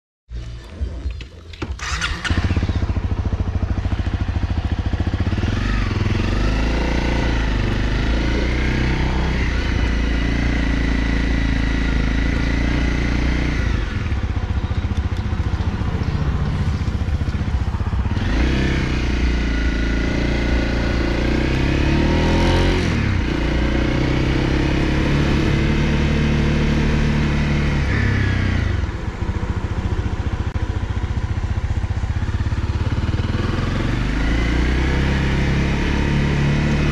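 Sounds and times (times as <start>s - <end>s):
motorcycle engine accelerating: 0.3s - 36.9s.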